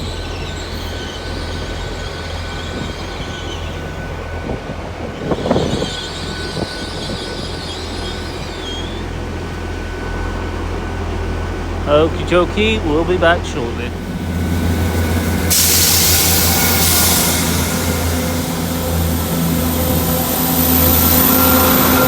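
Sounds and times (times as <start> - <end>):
train wheels and brakes squealing: 0.0 - 13.0, 13.8 - 22.0
low train hum: 0.0 - 22.0.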